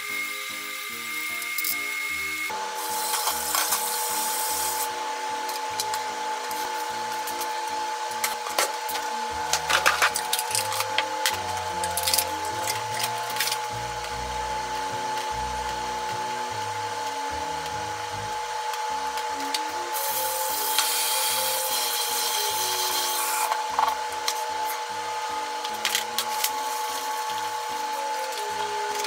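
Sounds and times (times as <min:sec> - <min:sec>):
steady hum: 0:00.0 - 0:29.0
soft background music: 0:03.7 - 0:29.0.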